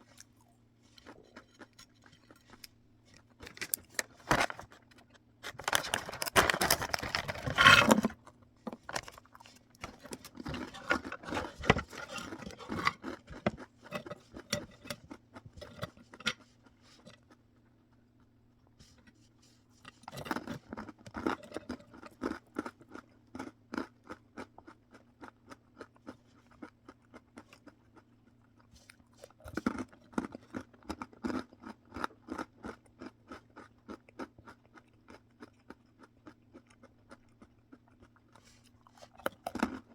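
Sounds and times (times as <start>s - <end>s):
crunchy snack being chewed: 0.0s - 19.0s, 19.9s - 39.9s.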